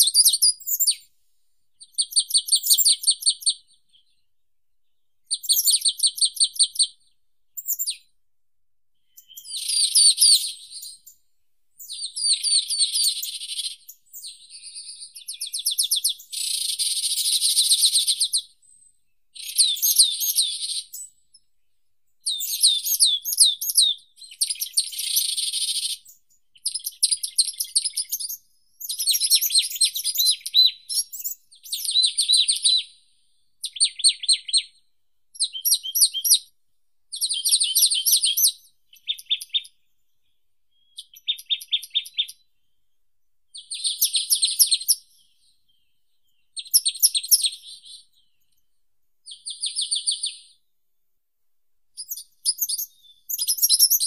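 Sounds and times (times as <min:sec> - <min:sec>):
songbird singing: 0:00.0 - 0:08.2, 0:08.9 - 0:50.7, 0:52.0 - 0:54.0.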